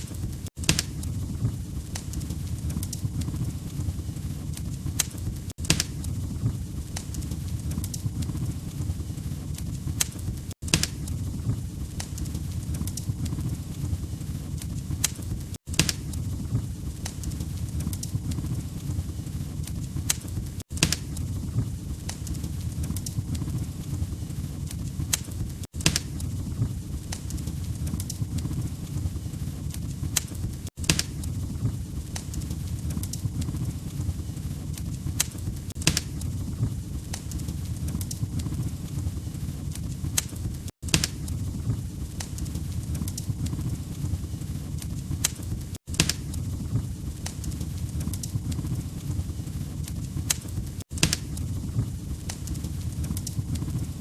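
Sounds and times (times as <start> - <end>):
log fire pops and snaps: 0.0 - 54.0
low rumble of flames: 0.0 - 54.0.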